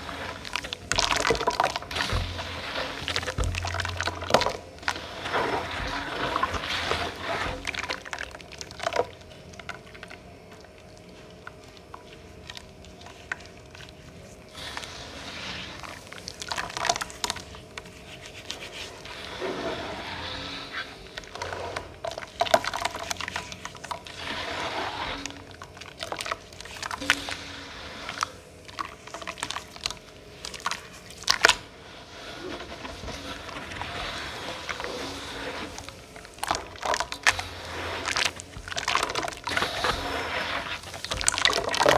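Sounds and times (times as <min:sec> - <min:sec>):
water swishing in metal bowl: 0:00.0 - 0:10.1, 0:13.0 - 0:41.9.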